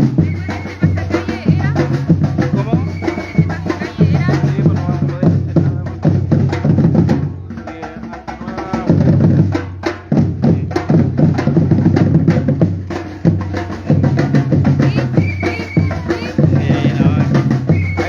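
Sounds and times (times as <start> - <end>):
deep bass drums: 0.0 - 18.0
hand drum and wood block strikes: 0.0 - 18.0.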